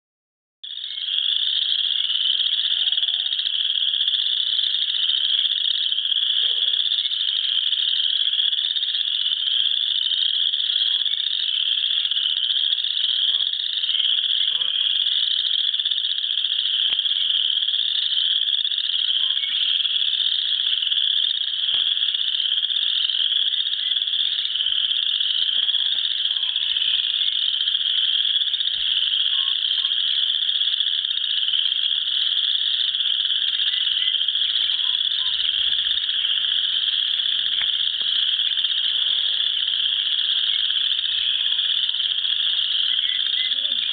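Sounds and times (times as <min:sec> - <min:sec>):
chorus of frogs trilling: 0:00.6 - 0:43.9.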